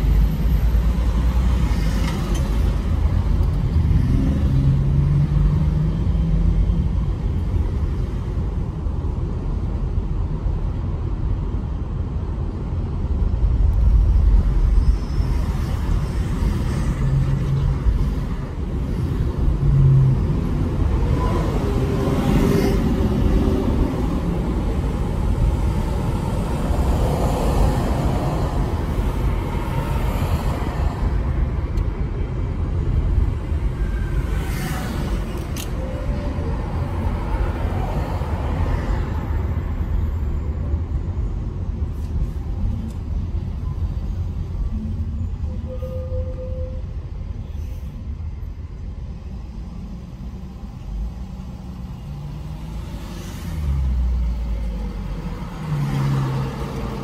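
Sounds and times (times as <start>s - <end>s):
car road and engine rumble: 0.0s - 57.0s
traffic: 0.0s - 57.0s.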